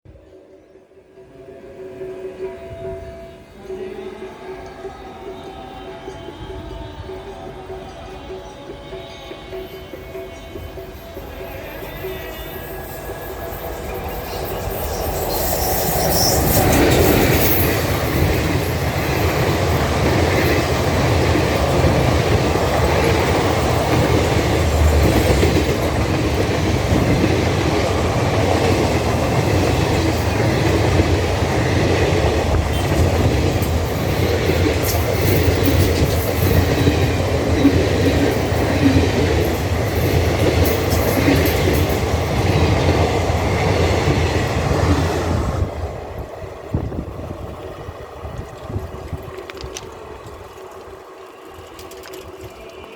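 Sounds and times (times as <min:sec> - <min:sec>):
train wheels rushing on rails: 0:04.5 - 0:52.9.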